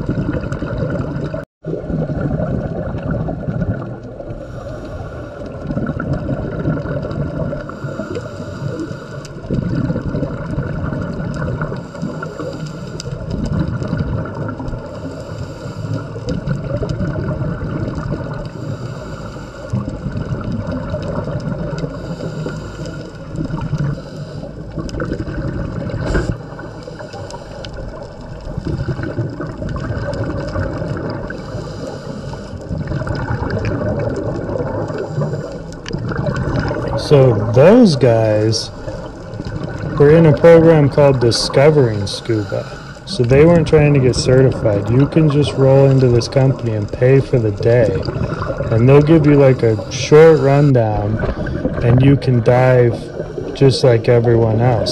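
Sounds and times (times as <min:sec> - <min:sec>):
underwater gurgling and bubbles: 0:00.0 - 0:54.9.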